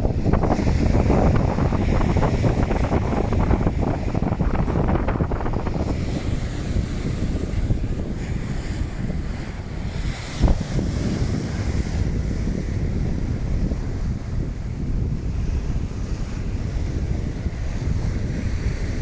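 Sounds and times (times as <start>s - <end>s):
waves washing on beach: 0.0s - 19.0s
wind buffeting microphone: 0.0s - 19.0s.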